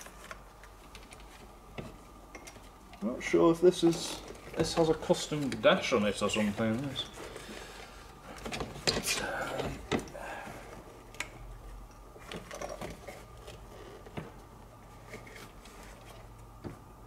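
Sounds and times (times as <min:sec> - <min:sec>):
clicks and rattles of wiring: 0:00.0 - 0:03.1, 0:03.7 - 0:10.2, 0:11.1 - 0:16.8
low steady hum: 0:00.0 - 0:17.0.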